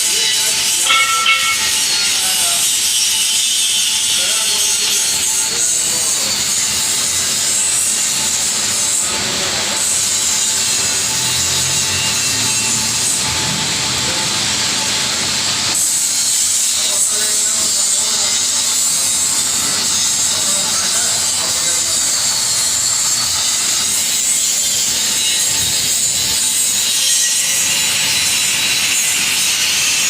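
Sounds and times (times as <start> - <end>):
hydraulic drill hiss and grind: 0.0 - 30.0.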